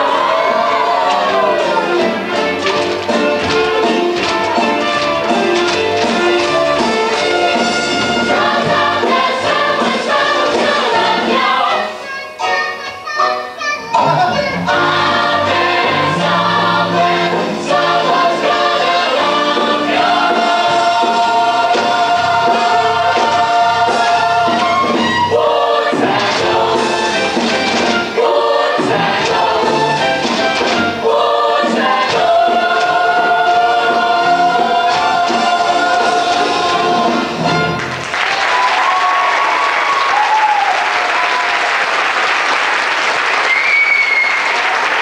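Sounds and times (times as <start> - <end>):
instrumental accompaniment: 0.0 - 38.2
chorus singing: 0.0 - 39.9.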